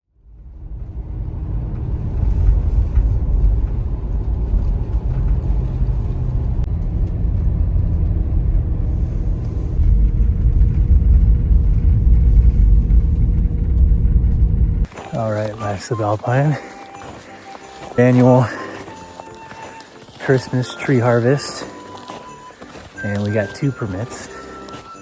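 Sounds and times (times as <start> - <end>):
motor vehicle rumbling: 0.1 - 25.0.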